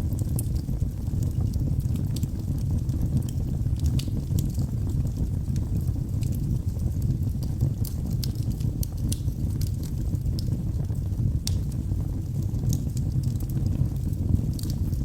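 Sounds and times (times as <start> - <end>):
fire crackles and pops: 0.0 - 15.0
low rumble of flame: 0.0 - 15.0.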